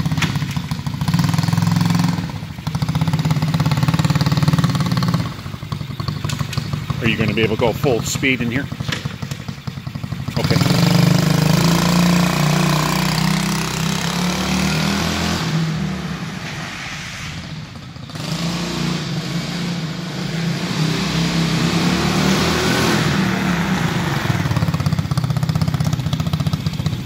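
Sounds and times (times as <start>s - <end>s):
quad engine revving hard: 1.0s - 5.6s, 6.2s - 9.3s, 10.2s - 16.8s, 17.4s - 26.9s.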